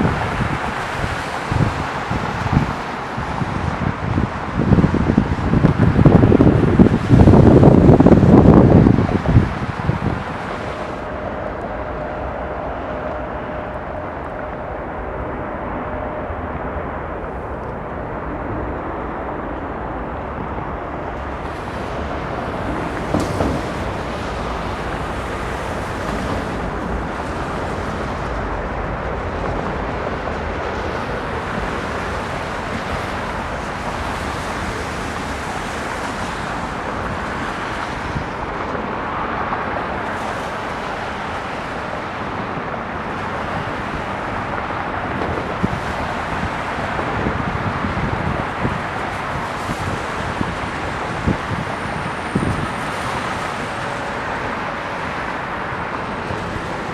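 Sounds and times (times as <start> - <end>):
jet engines landing: 0.0 - 56.9
traffic hiss: 0.0 - 56.9
wind: 0.0 - 56.9.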